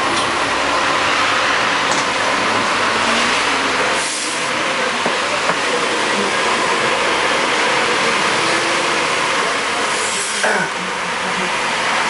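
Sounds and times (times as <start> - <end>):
bus engine running: 0.0 - 12.0
traffic noise: 0.0 - 12.0.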